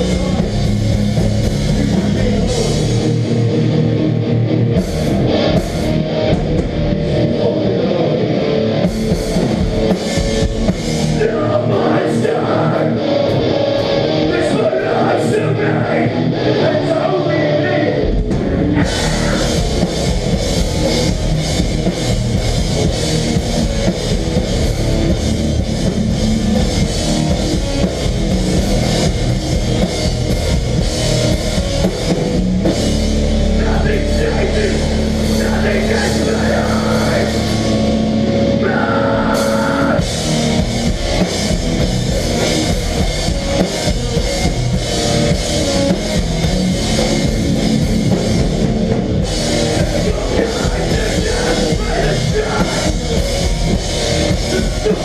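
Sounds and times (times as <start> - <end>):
drum kit with cymbals: 0.0 - 4.0, 4.7 - 7.8, 8.8 - 14.9, 18.0 - 55.0
bass guitar: 0.0 - 55.0
distorted electric guitars: 0.0 - 55.0.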